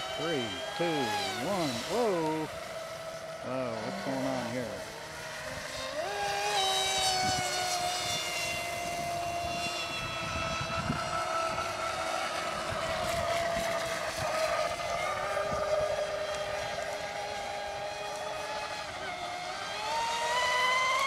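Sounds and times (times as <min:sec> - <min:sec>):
rc speedboat motor whine: 0:00.0 - 0:21.0.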